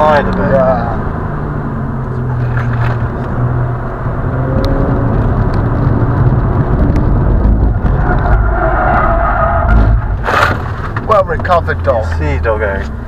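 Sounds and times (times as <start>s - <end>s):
car engine: 0.0s - 13.0s
road noise inside car: 0.0s - 13.0s.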